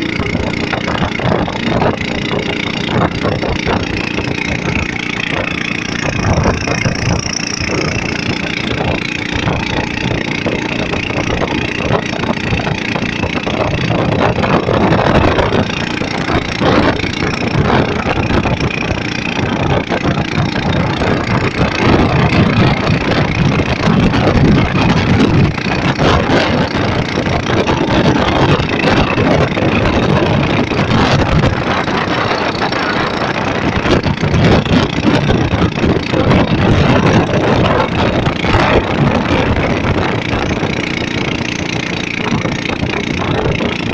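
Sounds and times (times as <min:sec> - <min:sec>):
motorboat engine running: 0:00.0 - 0:43.9
storm wind: 0:00.0 - 0:43.9
water noise: 0:00.0 - 0:43.9.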